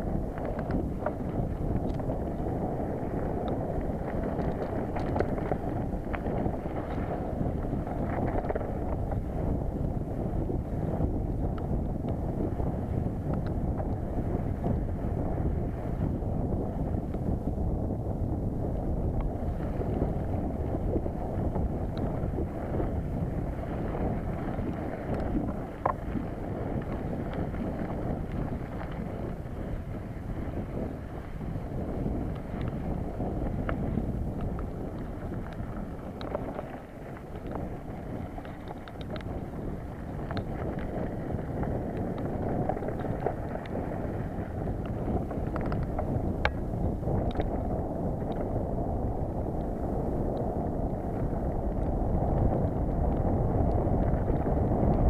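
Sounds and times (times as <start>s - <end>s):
bike tyres rumbling on dirt trail: 0.0s - 55.0s
wind buffeting microphone: 0.0s - 55.0s.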